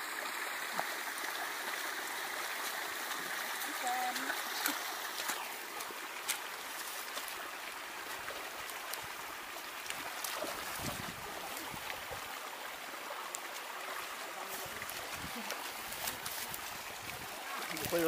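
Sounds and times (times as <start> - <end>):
water trickling: 0.0 - 18.0.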